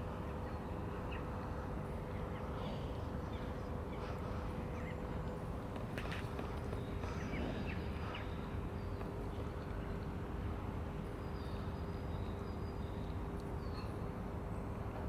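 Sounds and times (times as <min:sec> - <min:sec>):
faint constant hum: 0:00.0 - 0:15.0.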